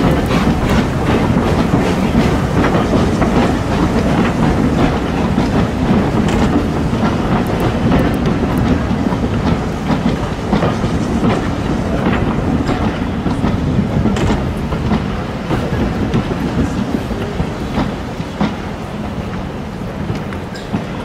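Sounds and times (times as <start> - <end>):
train rumble: 0.0 - 21.0
train wheels clacking over rail joints: 0.0 - 21.0.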